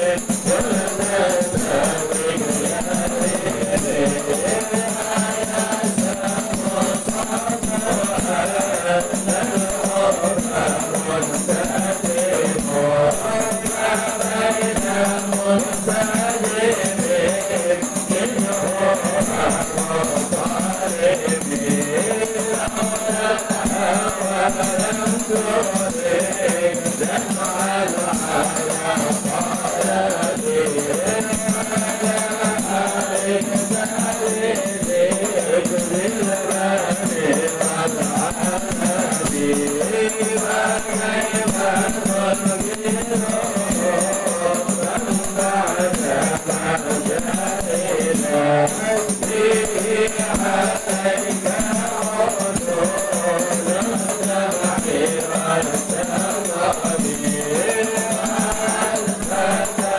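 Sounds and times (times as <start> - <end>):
frame drums beating: 0.0 - 59.9
men singing devotional song: 0.0 - 59.9.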